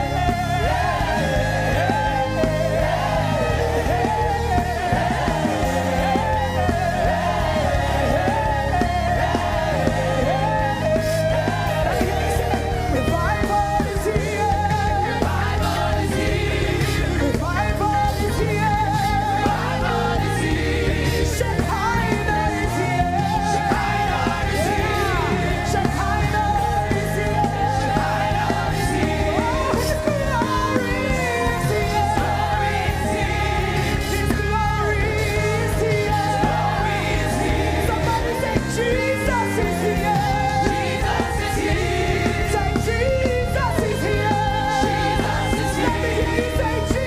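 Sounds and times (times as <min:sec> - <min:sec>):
band with bass line: 0:00.0 - 0:47.0
voices singing held notes: 0:00.0 - 0:47.0.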